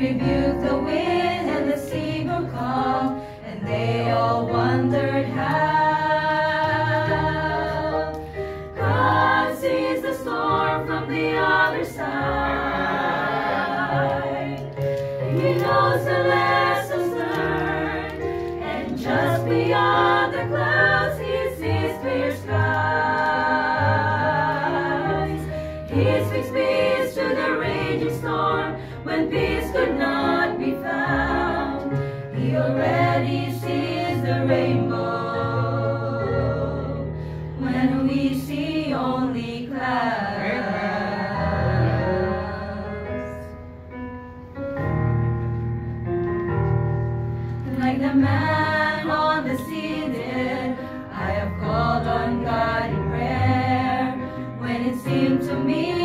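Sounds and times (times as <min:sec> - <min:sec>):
women singing a hymn in harmony: 0:00.0 - 0:43.6, 0:47.6 - 0:56.0.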